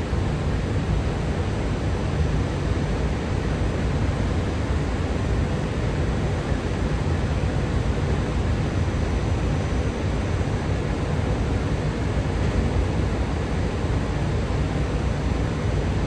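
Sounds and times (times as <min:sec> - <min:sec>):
train rumble and hiss: 0:00.0 - 0:16.0.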